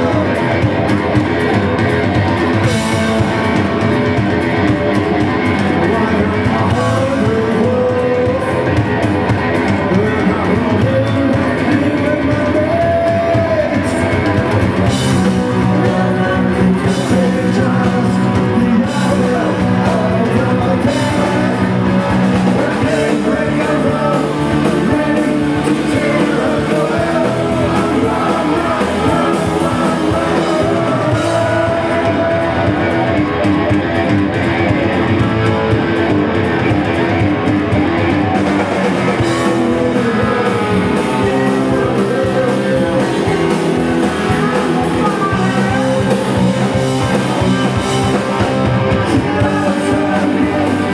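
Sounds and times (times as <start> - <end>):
person singing: 0.0 - 35.8, 38.2 - 50.9
bass guitar: 0.0 - 50.9
drum kit: 0.0 - 50.9
electric guitar: 0.0 - 50.9.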